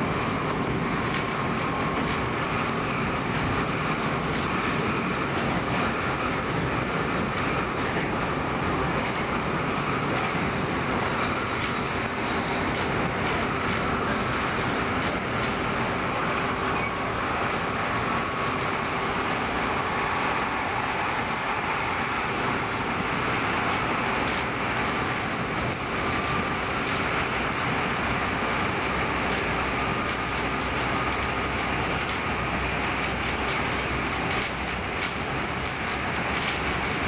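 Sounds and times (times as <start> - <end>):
constant hum: 0.0 - 37.0
train wheels rumbling: 0.0 - 37.0.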